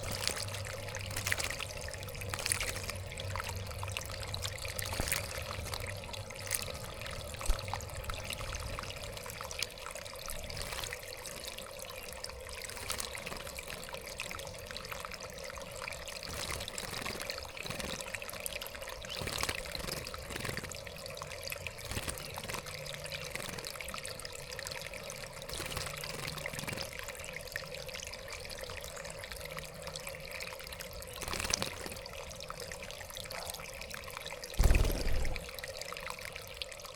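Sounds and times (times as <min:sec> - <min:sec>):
water trickling and splashing: 0:00.0 - 0:36.9.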